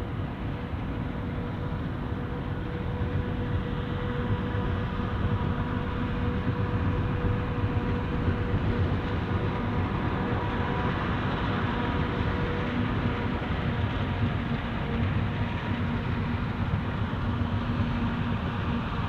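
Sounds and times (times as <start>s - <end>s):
constant high whine: 0.0s - 19.0s
farm machinery low rumble: 0.0s - 19.0s.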